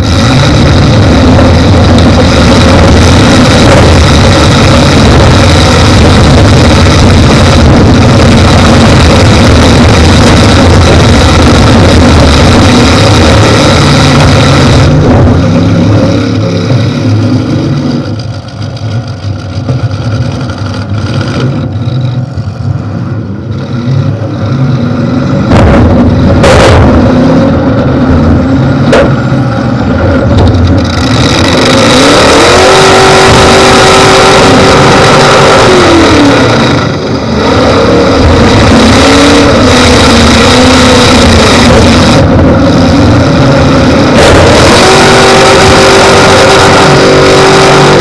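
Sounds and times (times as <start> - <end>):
car engine revving hard: 0.0 - 22.0, 23.4 - 48.0.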